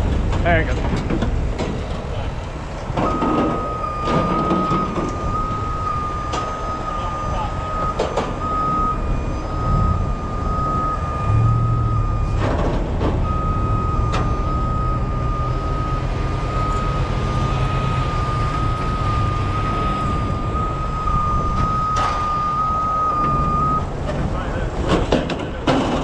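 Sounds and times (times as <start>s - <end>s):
heavy diesel engine running: 0.0s - 26.0s
vehicle backup alarm beeping: 2.9s - 24.7s.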